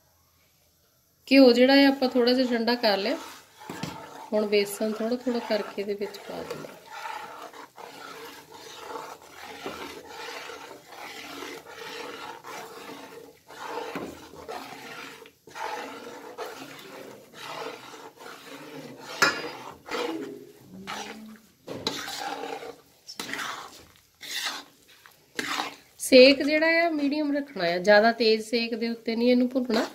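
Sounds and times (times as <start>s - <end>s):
metal spatula scraping pan: 1.5s - 27.7s, 29.2s - 29.9s.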